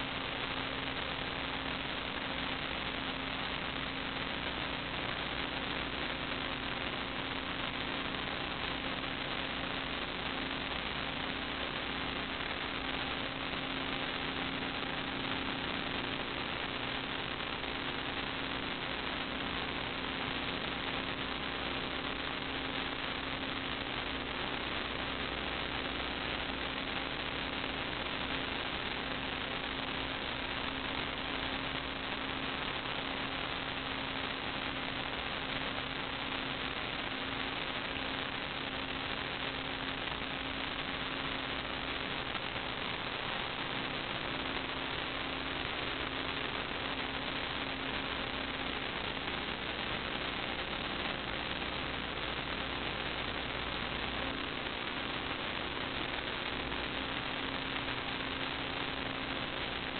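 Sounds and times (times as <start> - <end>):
electrical hum: 0.0 - 59.9
steady hiss: 0.0 - 59.9.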